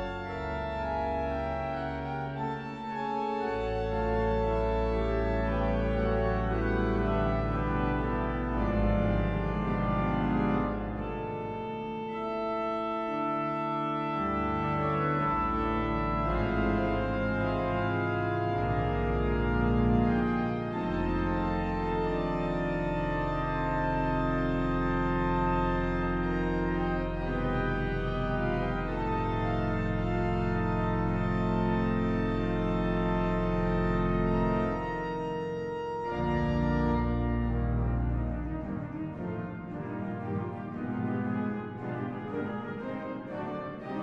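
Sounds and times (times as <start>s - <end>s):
organ music chords: 0.0s - 44.0s.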